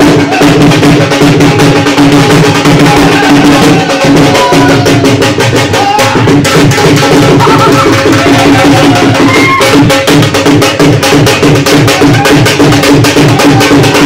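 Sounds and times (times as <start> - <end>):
drums playing dance beat: 0.0 - 14.0.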